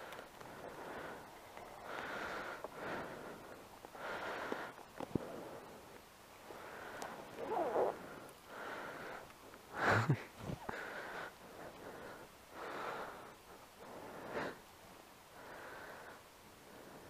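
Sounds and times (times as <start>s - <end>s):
person breathing close to microphone: 0.0s - 14.6s, 15.3s - 17.0s.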